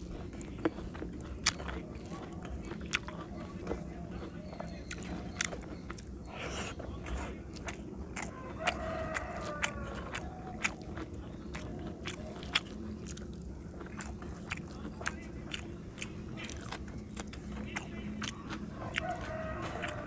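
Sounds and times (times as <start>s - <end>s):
man chewing food: 0.0s - 20.0s.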